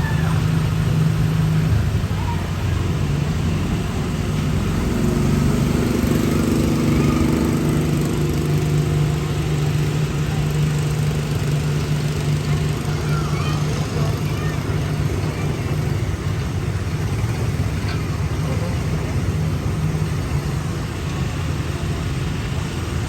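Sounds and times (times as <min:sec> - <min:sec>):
ride vehicle mechanical hum: 0:00.0 - 0:23.0.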